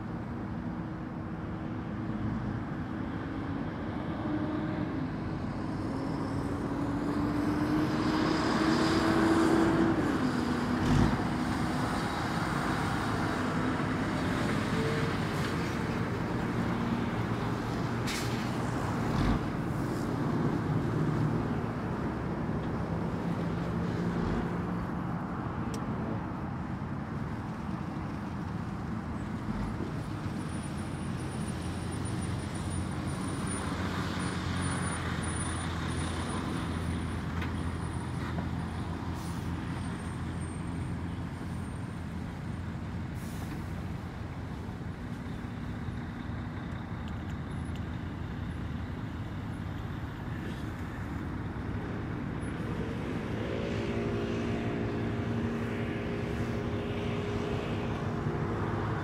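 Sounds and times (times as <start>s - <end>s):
heavy vehicle engine drone: 0.0s - 59.0s
highway traffic roar: 0.0s - 59.0s.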